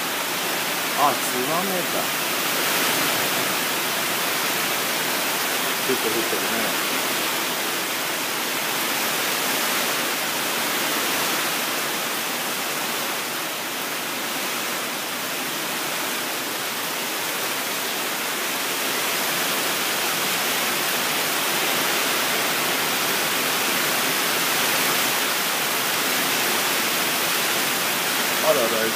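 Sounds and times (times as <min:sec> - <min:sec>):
heavy rain hissing: 0:00.0 - 0:28.9.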